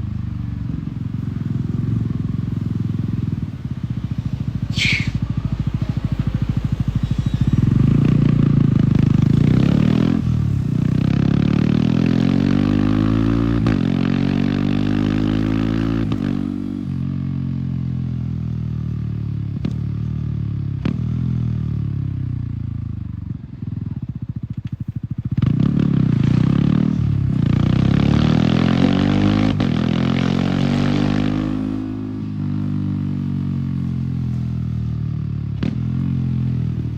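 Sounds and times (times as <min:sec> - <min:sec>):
motorcycle accelerating through gears: 0:00.0 - 0:36.9.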